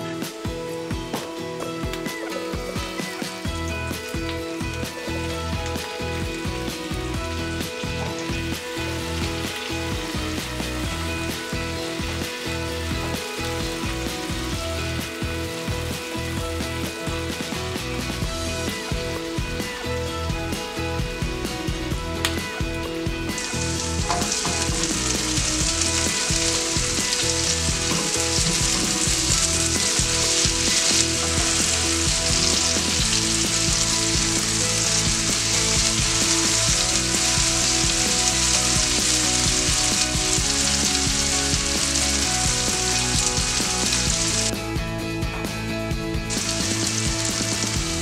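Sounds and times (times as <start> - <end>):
vegetables sizzling in oil: 2.1 - 22.6, 23.2 - 44.5, 46.2 - 48.0.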